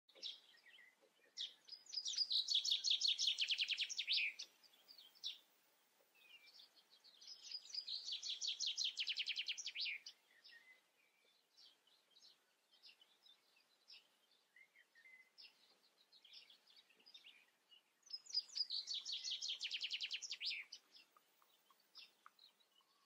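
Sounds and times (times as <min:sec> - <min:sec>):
faint bird chirps: 0:00.1 - 0:23.0
songbird singing: 0:00.1 - 0:23.0.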